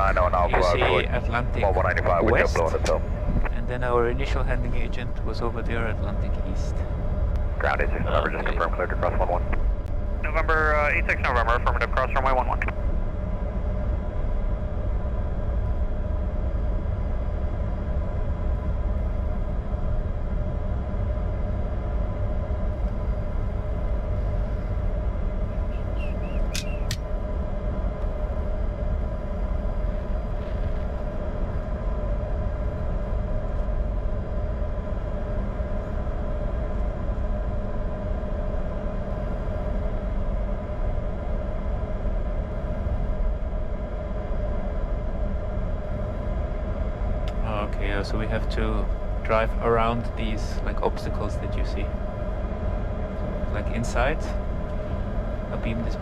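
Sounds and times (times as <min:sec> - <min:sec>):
aircraft cockpit rumble: 0:00.0 - 0:56.0
jet engine whine: 0:00.0 - 0:56.0.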